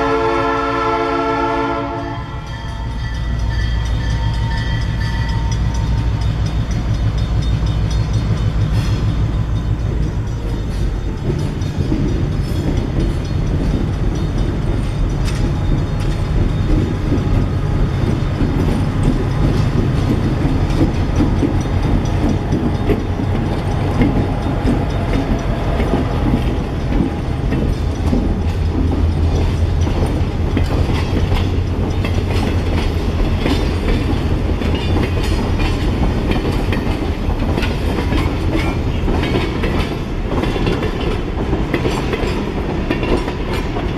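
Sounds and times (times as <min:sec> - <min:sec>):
train engine drone: 0:00.0 - 0:43.9
wheel and rail noise: 0:00.0 - 0:43.9.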